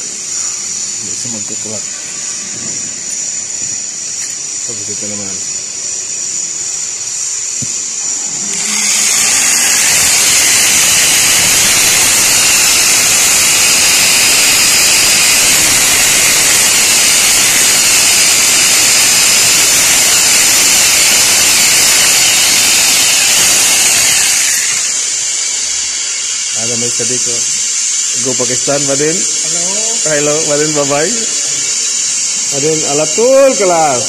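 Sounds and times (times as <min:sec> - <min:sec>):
machine whirring hiss: 0:00.0 - 0:34.0.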